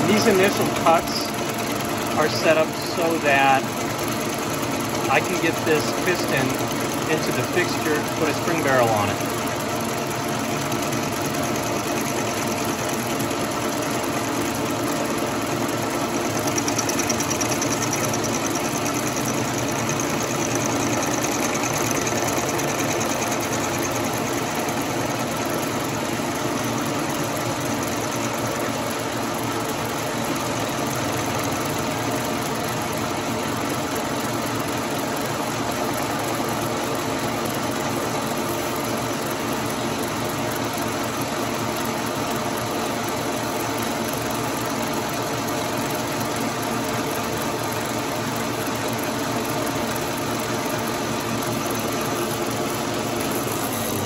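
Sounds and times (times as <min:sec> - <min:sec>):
metal lathe running: 0:00.0 - 0:54.0.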